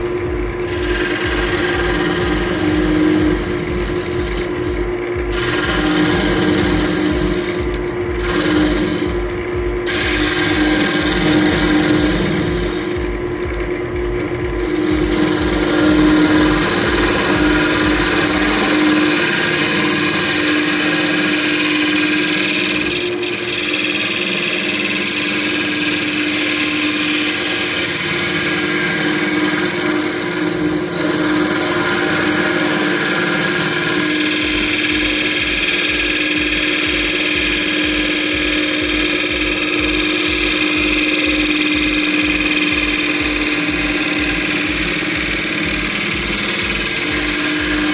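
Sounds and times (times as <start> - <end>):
lathe motor hum: 0.0 - 47.9
low rhythmic pulse: 0.0 - 47.9
tool cutting wood hiss: 0.0 - 47.9.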